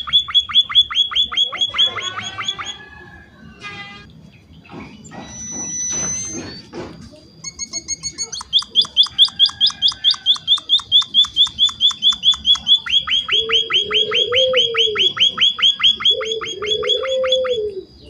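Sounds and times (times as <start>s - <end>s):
bird chirping rapidly: 0.0s - 2.8s, 5.0s - 6.6s, 7.4s - 17.6s.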